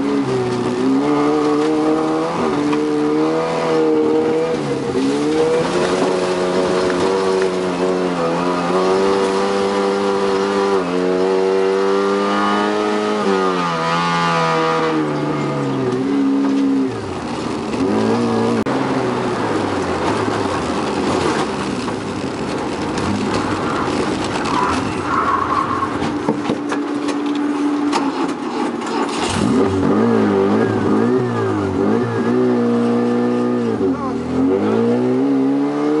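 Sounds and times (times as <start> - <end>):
rally car engine at speed: 0.0 - 36.0
tyres rumbling on gravel: 0.0 - 36.0.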